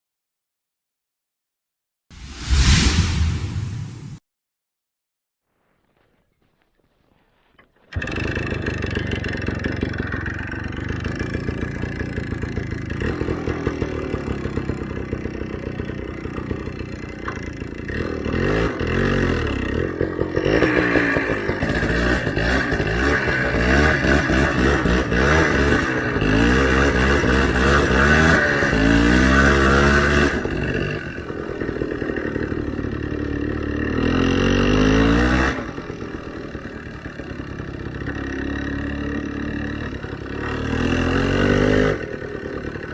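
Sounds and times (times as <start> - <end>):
small motorcycle engine revving: 7.9 - 42.9.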